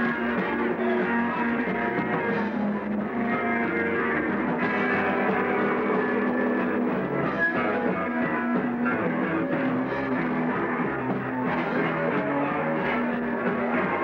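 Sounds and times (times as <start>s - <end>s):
drum kit: 0.0s - 14.0s
electric guitar: 0.0s - 14.0s
punk rock band playing live: 0.0s - 14.0s.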